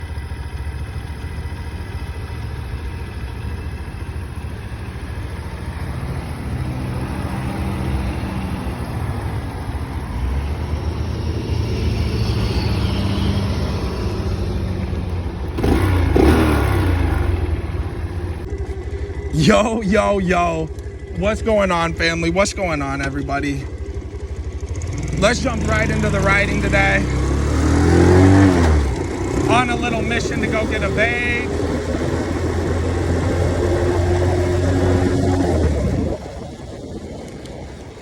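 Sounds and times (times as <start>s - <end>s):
mini motorcycle engine running: 0.0s - 38.0s.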